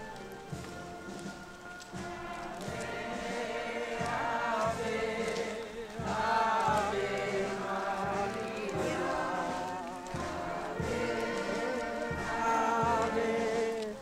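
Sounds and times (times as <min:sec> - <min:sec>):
group singing a hymn: 0:01.8 - 0:14.0.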